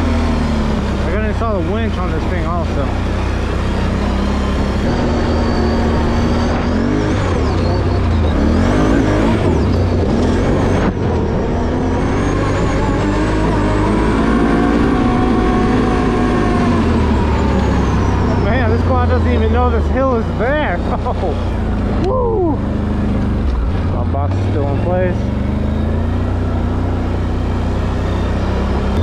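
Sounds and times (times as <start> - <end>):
quad engine running: 0.0 - 29.0.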